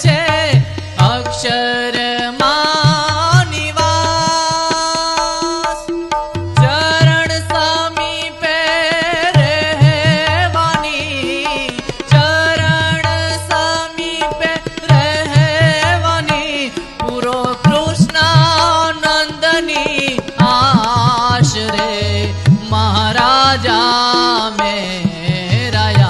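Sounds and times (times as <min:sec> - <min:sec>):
person singing devotional song: 0:00.0 - 0:26.0
tabla strokes: 0:00.0 - 0:26.0.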